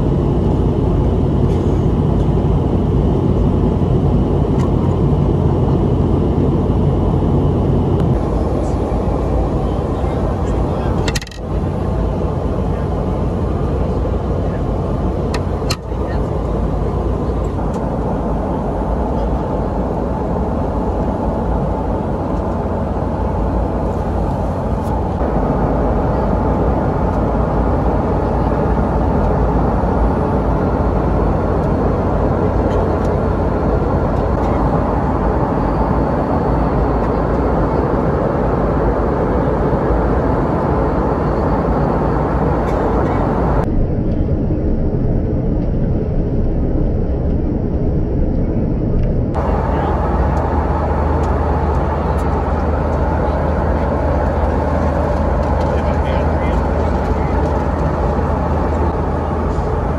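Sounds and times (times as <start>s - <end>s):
airplane cabin noise: 0.0s - 59.9s
low jet engine drone: 0.0s - 59.9s.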